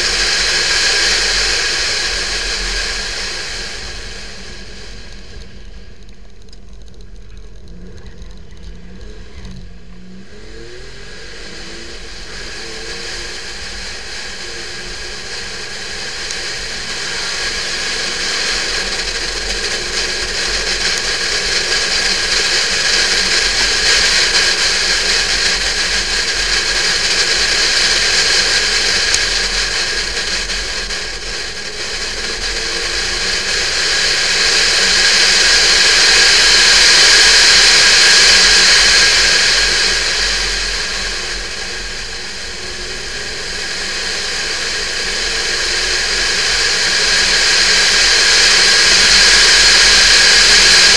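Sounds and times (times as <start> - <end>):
car engine revving: 0.0 - 50.9
rushing noise of car at speed: 0.0 - 50.9.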